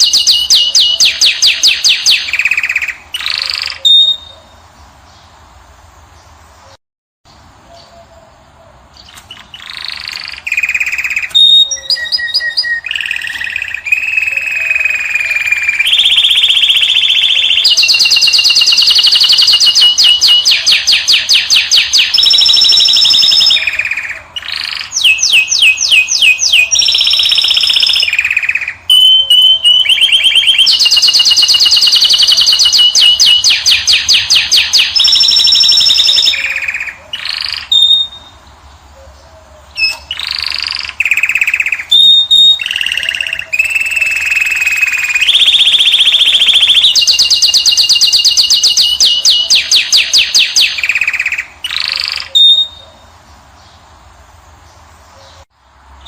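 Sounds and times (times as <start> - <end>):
finch singing: 0.0 - 5.4, 6.0 - 53.9.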